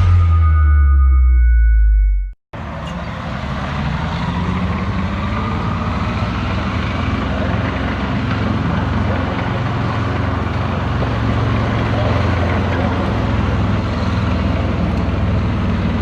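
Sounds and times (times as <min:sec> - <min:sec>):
heavy engine running: 0:00.0 - 0:01.6, 0:02.6 - 0:16.0.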